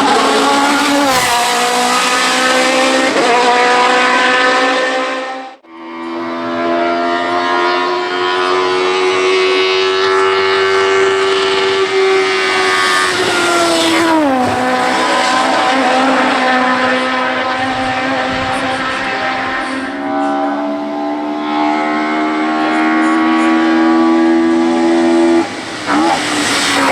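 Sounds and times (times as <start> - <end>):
race car engine at high revs: 0.0 - 26.9.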